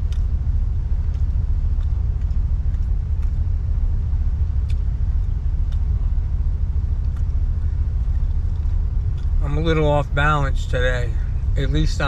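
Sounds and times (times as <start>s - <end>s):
vehicle rumble from inside cab: 0.0s - 12.0s.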